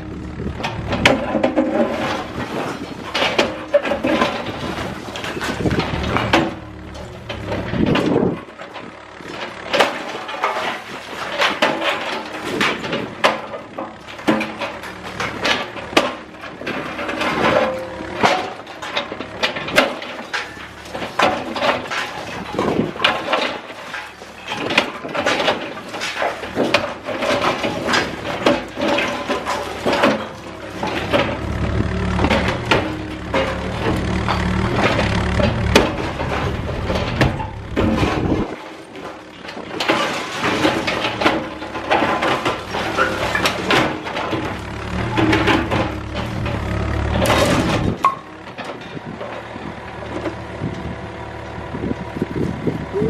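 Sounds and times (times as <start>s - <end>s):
concrete breaking and crashing: 0.8s - 49.6s
debris falling: 0.8s - 49.6s.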